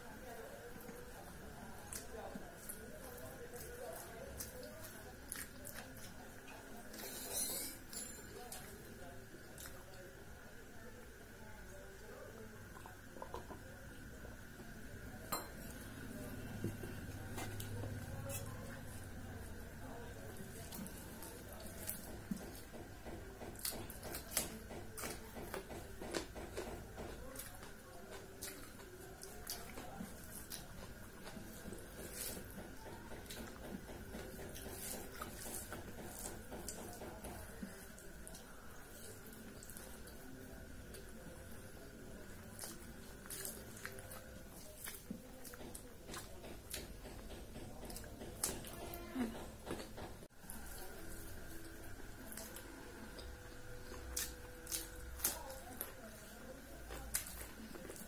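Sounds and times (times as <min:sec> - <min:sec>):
wet chewing: 0:00.7 - 0:07.1, 0:16.6 - 0:58.0.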